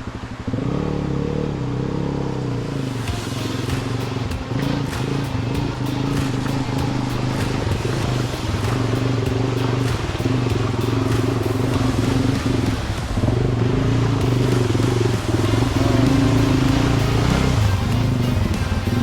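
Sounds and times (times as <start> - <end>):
motorcycle engine under load: 0.0 - 19.0
rough ride noise: 0.0 - 19.0.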